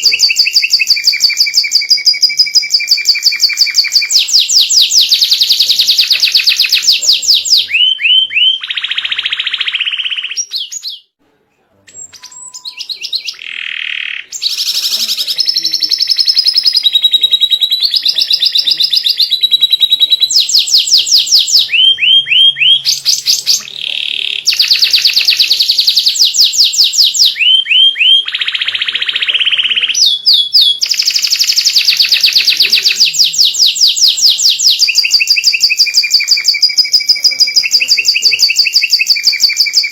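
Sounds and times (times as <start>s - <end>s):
canary singing: 0.0s - 11.2s, 11.8s - 39.9s.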